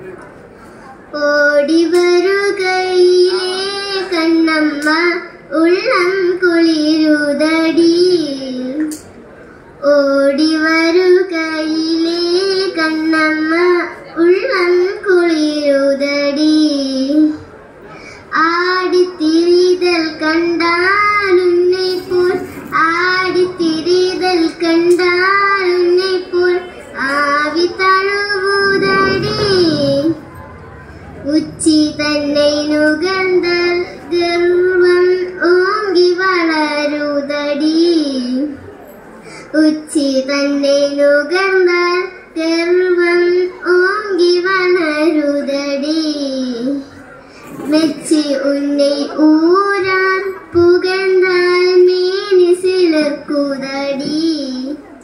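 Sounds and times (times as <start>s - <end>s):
girl singing into a microphone: 0.7s - 9.1s, 9.8s - 38.6s, 39.3s - 54.9s.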